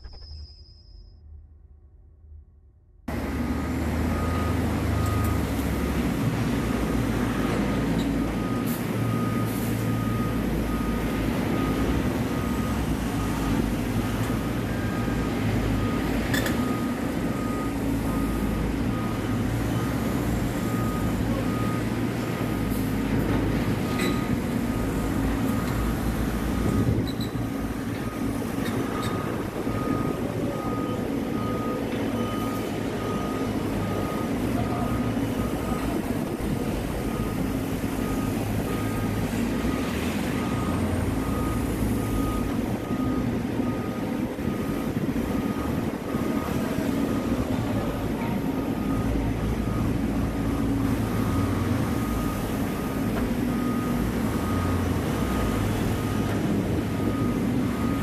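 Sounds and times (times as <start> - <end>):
reversing alarm beeps: 0.0 - 1.6, 3.1 - 58.0
dump truck diesel engine: 3.0 - 58.0.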